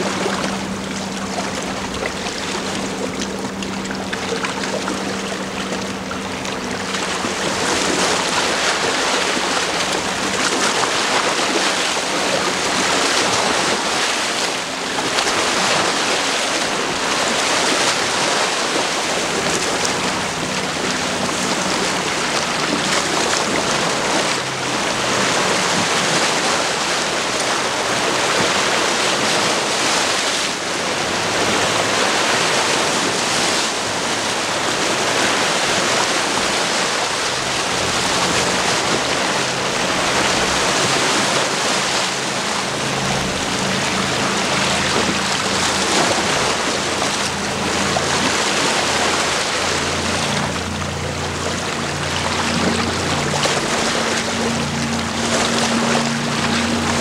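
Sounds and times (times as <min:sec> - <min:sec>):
water washing against rocks: 0:00.0 - 0:57.0.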